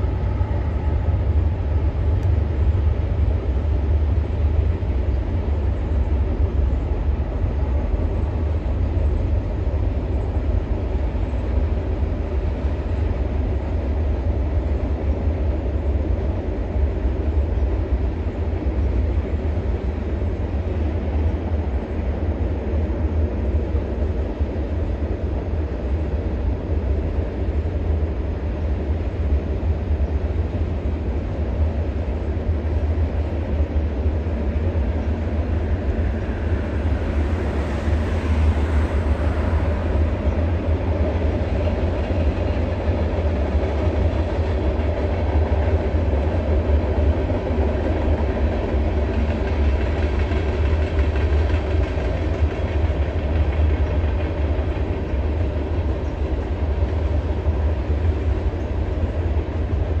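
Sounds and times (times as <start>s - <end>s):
distant freight train rumbling: 0.0s - 60.0s.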